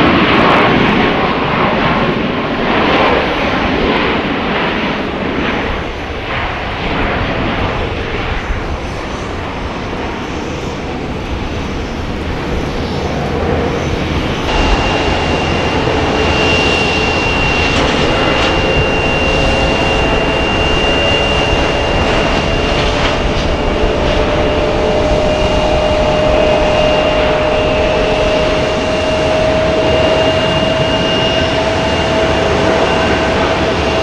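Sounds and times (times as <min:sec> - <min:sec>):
jet engines whining at taxi power: 0:00.0 - 0:34.0.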